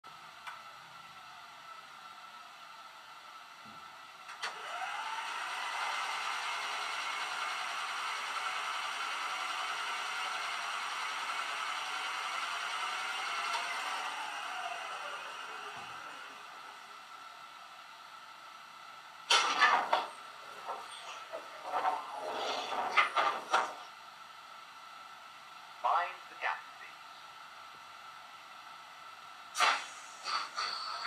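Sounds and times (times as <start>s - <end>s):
train machinery whirring hum: 0.1s - 31.0s.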